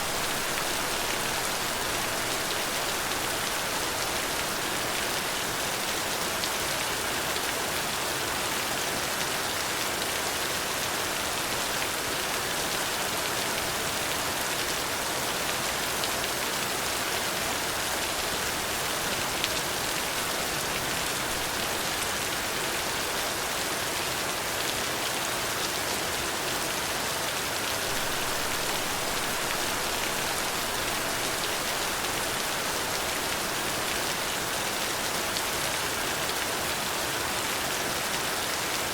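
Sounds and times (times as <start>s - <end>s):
steady rain hissing: 0.0s - 25.3s, 26.4s - 38.9s.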